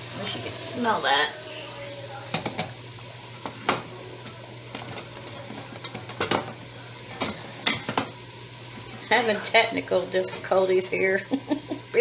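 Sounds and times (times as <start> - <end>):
vegetables sizzling in butter: 0.0 - 12.0.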